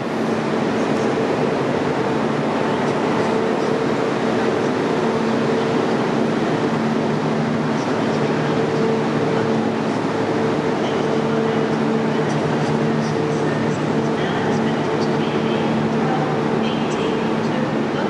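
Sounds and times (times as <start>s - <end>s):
train engines humming: 0.0s - 18.0s.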